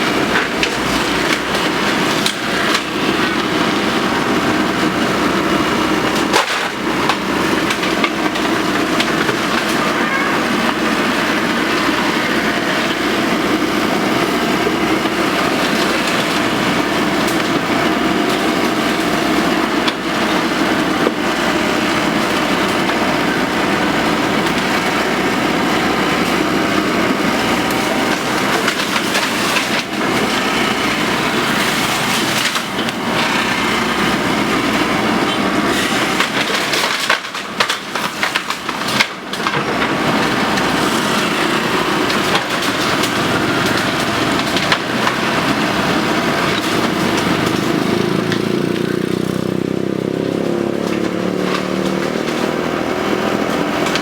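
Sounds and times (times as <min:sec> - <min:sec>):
excavator engine and hydraulics: 0:00.0 - 0:54.0
bamboo cracking and splintering: 0:00.2 - 0:10.0, 0:12.6 - 0:54.0.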